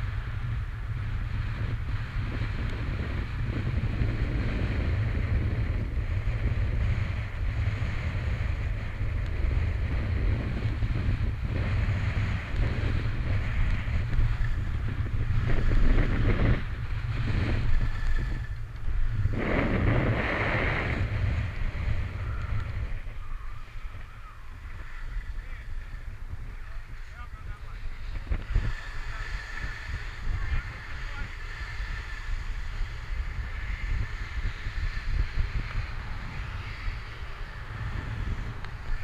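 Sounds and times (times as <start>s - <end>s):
wind buffeting microphone: 0.0s - 39.0s
snowboard scraping over snow: 0.1s - 39.0s.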